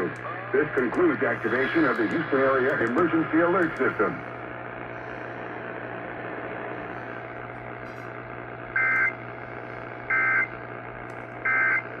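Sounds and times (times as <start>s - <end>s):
hum: 0.0s - 12.0s
radio static: 0.0s - 12.0s.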